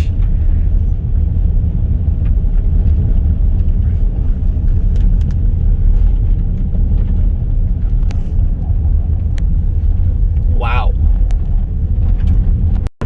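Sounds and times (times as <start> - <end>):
car road rumble inside cabin: 0.0 - 12.9.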